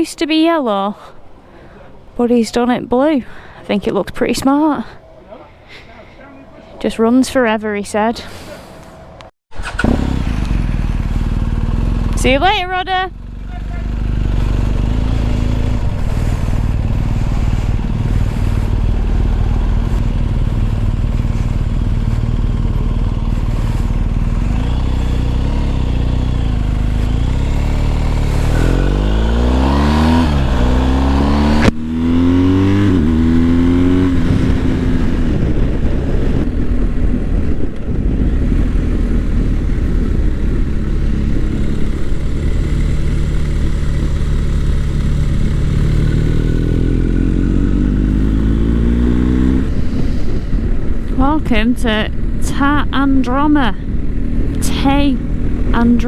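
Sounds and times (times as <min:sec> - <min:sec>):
motorcycle engine running: 0:09.5 - 0:56.0.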